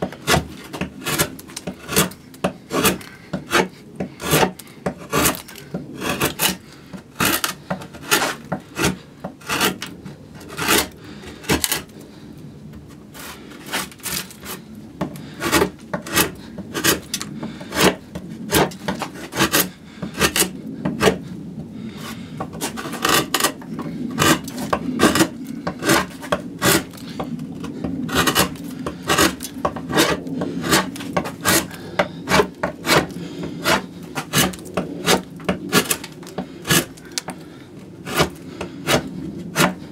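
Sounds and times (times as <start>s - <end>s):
gouge scraping wood: 0.0s - 11.9s, 13.2s - 21.3s, 21.9s - 39.9s.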